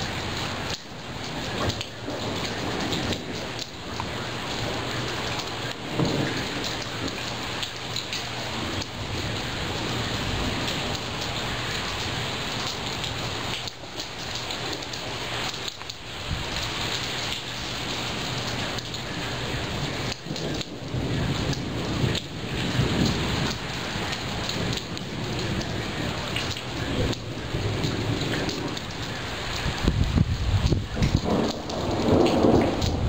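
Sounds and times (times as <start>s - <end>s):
rain downpour: 0.0s - 33.0s
thunder rumble: 0.0s - 33.0s.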